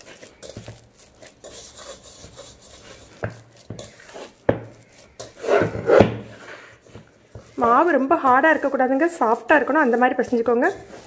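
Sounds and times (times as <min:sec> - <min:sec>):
dough squishing against metal bowl: 0:00.0 - 0:11.0.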